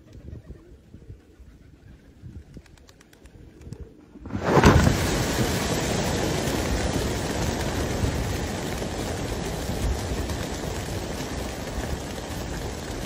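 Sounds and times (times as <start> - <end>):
pigeon wingbeats flapping: 1.0 - 13.0.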